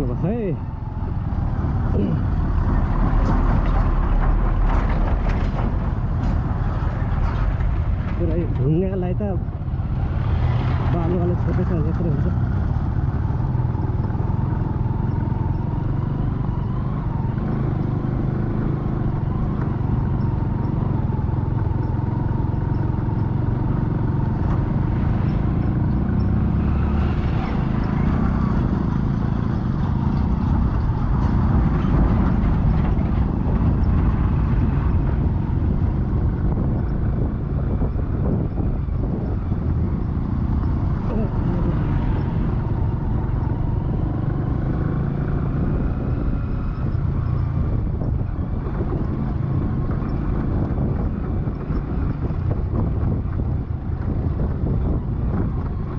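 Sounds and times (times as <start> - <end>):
road vehicle engines and tyres rumbling: 0.0 - 55.9.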